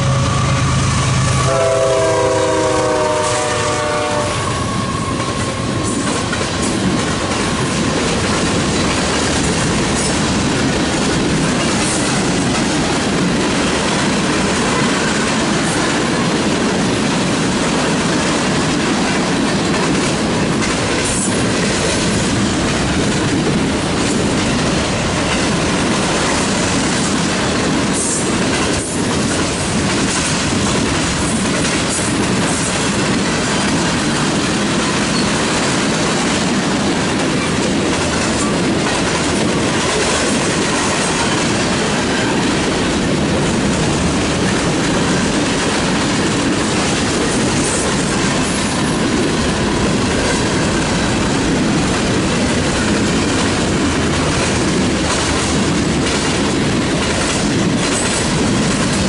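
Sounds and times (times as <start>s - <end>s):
freight train wheels rumbling on rails: 0.0s - 59.0s
wheels clickety-clack over track: 1.4s - 59.0s.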